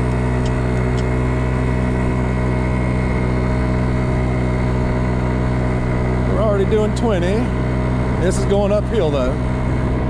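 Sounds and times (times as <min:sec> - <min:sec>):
scooter engine running under load: 0:00.0 - 0:10.0.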